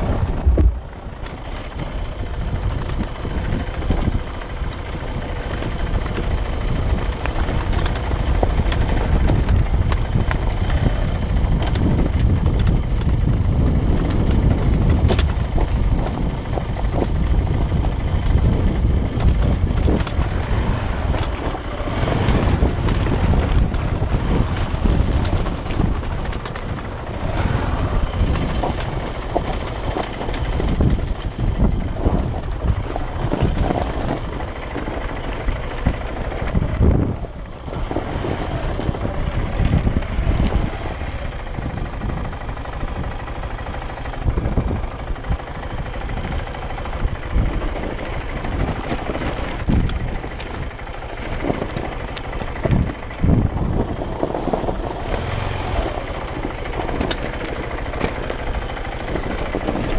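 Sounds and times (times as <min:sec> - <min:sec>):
motorcycle engine running: 0:00.0 - 0:59.9
wind on microphone: 0:00.0 - 0:59.9.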